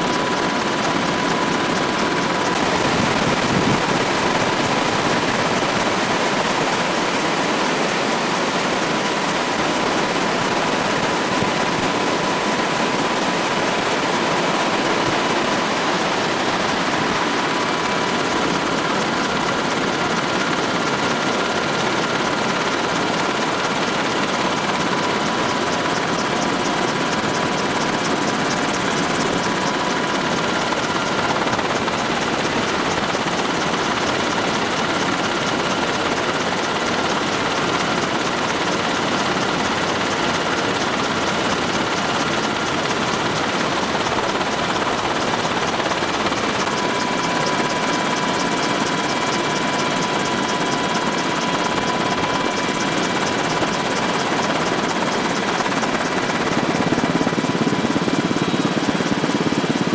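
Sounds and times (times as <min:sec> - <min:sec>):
helicopter rotor and engine noise: 0:00.0 - 0:59.9.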